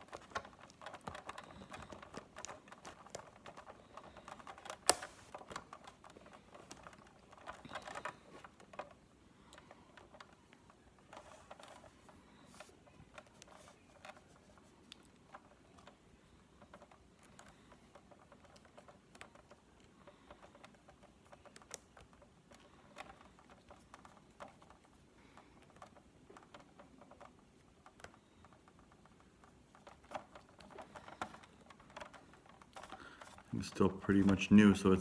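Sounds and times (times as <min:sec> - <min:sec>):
small plastic parts clicking: 0:00.0 - 0:35.0.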